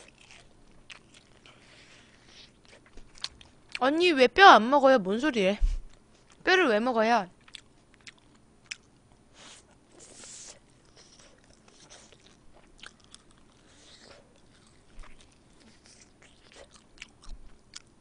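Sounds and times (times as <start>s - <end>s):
biting and chewing mouth sounds: 0.0s - 3.8s, 7.4s - 18.0s.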